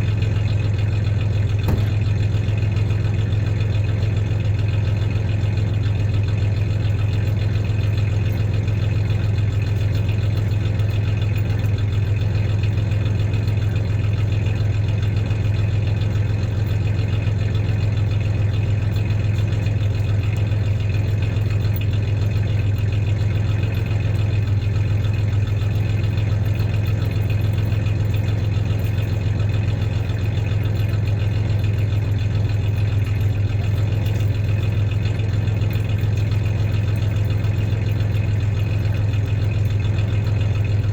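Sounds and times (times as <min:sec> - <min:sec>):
engine idling with misfire: 0:00.0 - 0:40.9.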